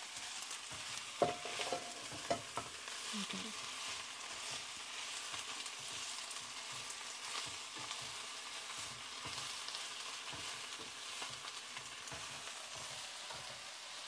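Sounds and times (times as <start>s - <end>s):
spinach sizzling in hot oil: 0.0s - 14.0s
chopsticks stirring: 0.6s - 13.7s.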